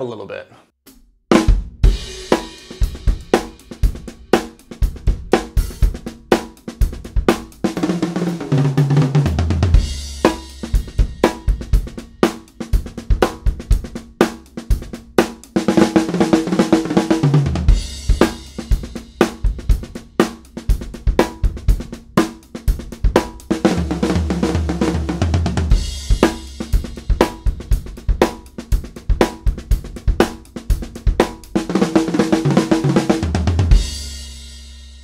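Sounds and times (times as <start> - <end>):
drum kit groove: 0.8 - 35.0.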